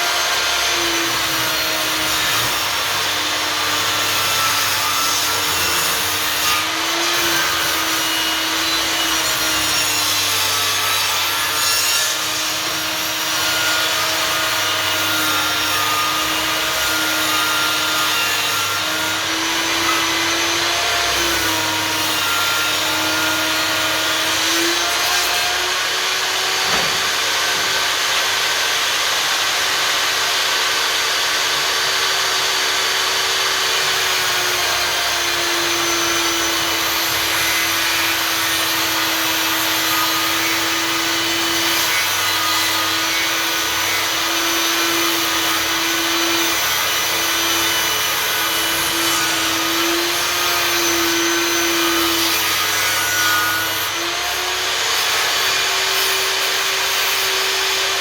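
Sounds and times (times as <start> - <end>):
table saw cutting wood: 0.0 - 58.0.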